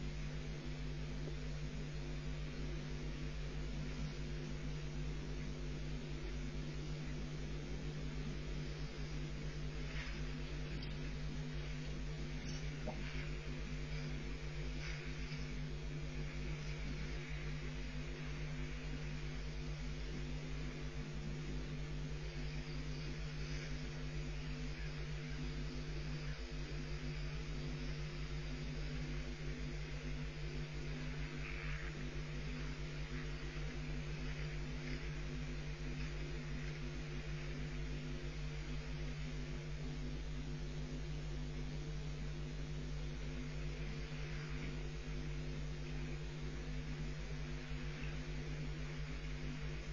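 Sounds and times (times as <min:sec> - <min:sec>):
electrical hum and hiss: 0:00.0 - 0:49.9.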